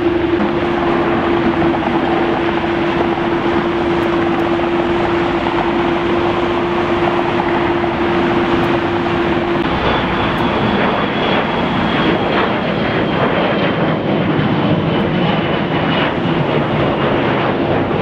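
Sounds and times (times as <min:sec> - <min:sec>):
high turbine whine: 0:00.0 - 0:18.0
jet engine roar: 0:00.0 - 0:18.0.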